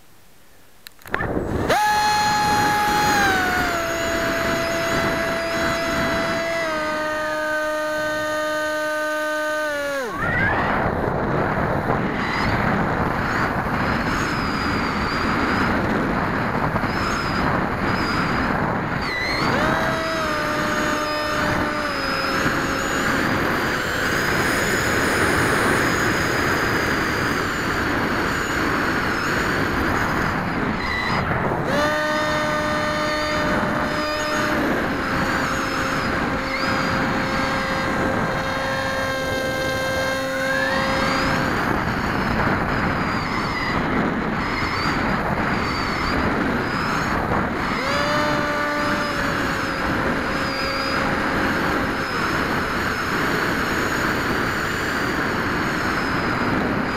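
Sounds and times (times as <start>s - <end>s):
electric motor whine: 1.0s - 56.9s
wind rush: 1.0s - 56.9s.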